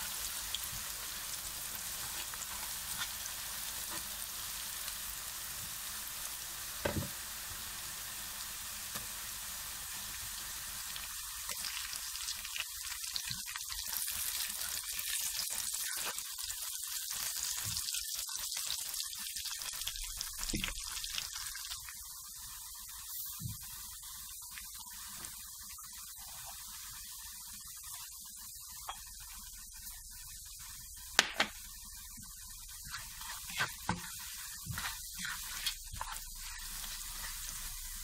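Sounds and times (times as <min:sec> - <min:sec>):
onions sizzling in oil: 0:00.0 - 0:38.0.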